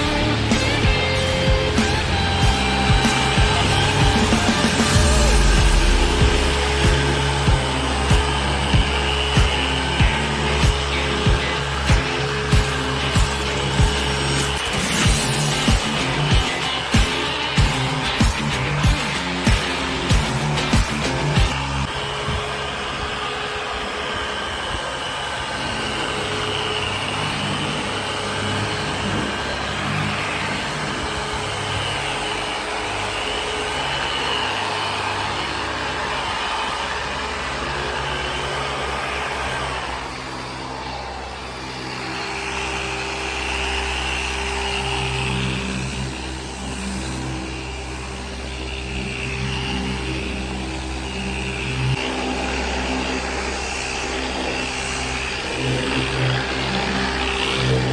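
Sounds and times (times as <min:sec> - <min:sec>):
car polisher motor humming: 0:00.0 - 0:57.9.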